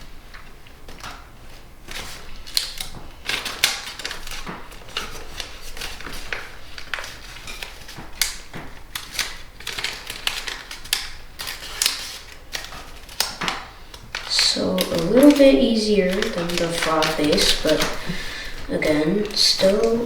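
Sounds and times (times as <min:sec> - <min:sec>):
paper folding and creasing: 0:00.2 - 0:20.0.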